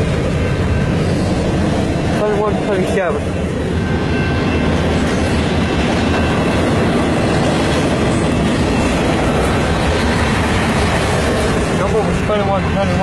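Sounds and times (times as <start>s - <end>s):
freight train rolling on rails: 0.0s - 13.0s.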